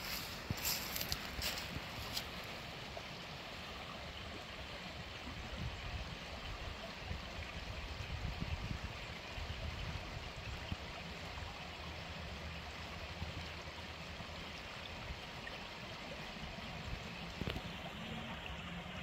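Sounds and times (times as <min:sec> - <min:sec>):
creek water babbling over rocks: 0:00.0 - 0:19.0.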